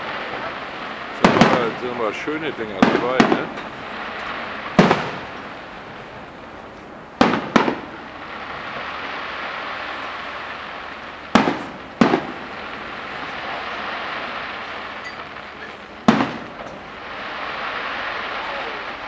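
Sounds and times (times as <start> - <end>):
fireworks bursting with loud bangs: 0.0 - 19.0.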